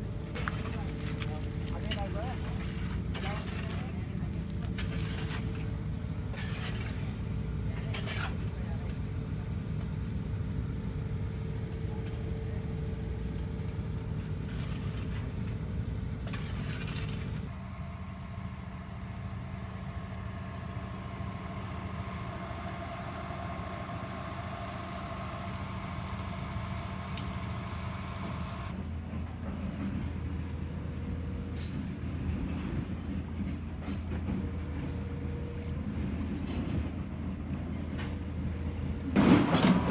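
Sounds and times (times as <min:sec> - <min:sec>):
piling rig engine humming: 0:00.0 - 0:39.9.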